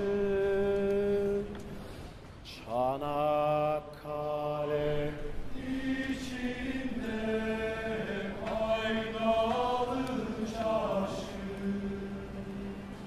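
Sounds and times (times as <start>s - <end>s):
person singing a folk song: 0.0s - 1.7s, 2.5s - 13.0s.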